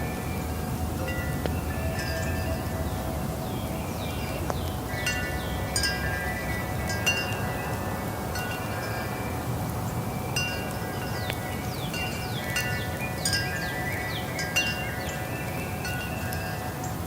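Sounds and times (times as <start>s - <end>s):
steady low rumble: 0.0s - 17.0s
wind chimes ringing: 0.0s - 17.0s.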